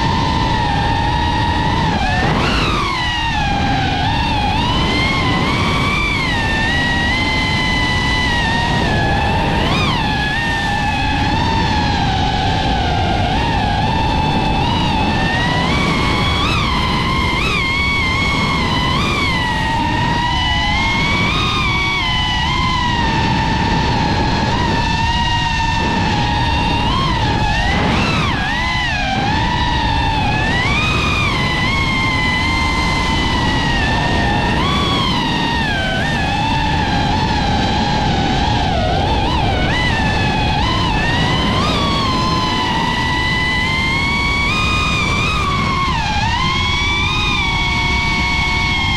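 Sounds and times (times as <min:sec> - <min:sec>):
low rushing noise: 0:00.0 - 0:48.9
quadcopter motors whining: 0:00.0 - 0:48.9.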